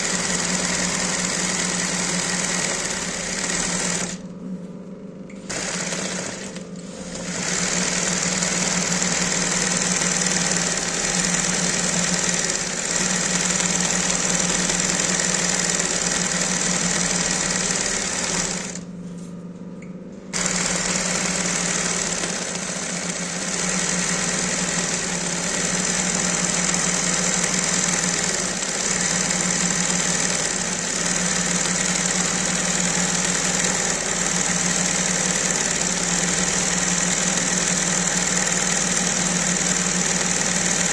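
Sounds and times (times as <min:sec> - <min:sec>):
sewing machine stitching fast: 0:00.0 - 0:04.2, 0:05.4 - 0:18.9, 0:20.3 - 0:40.9
steady motor hum: 0:00.0 - 0:40.9.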